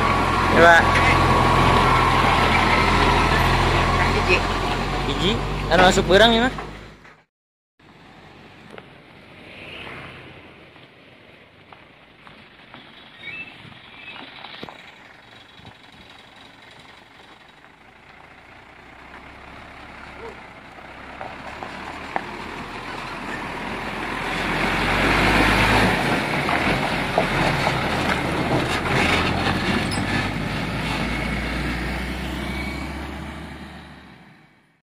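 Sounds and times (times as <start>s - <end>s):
diesel truck driving past: 0.0s - 7.1s, 7.8s - 34.8s.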